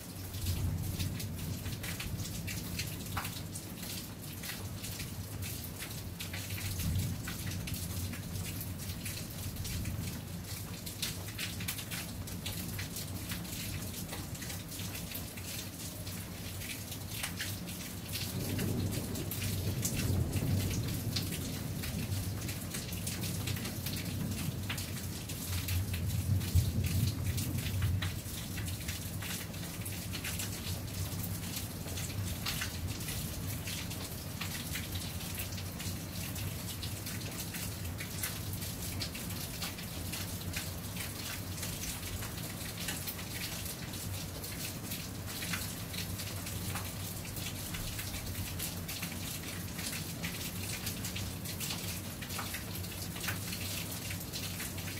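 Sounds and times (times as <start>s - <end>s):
raindrops ticking close by: 0.0s - 54.9s
steady rain falling: 0.0s - 54.9s.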